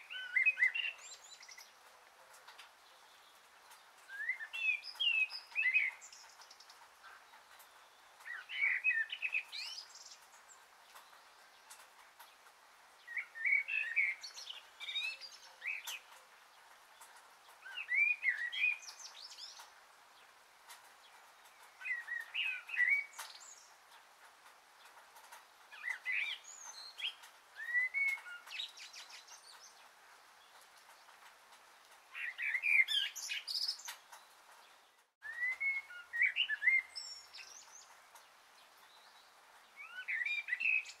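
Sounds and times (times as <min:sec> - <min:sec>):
faint steady hiss: 0:00.0 - 0:41.0
songbirds chirping: 0:00.0 - 0:41.0.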